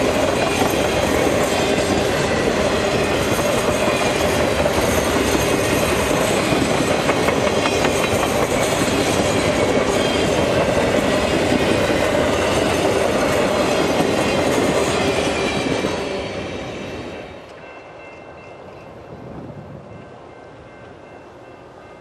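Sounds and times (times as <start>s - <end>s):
train wheels clattering on rails: 0.0s - 18.7s.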